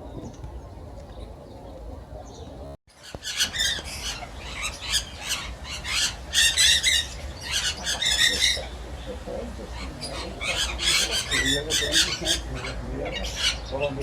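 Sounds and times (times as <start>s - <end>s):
bird giving harsh calls: 2.3s - 14.0s.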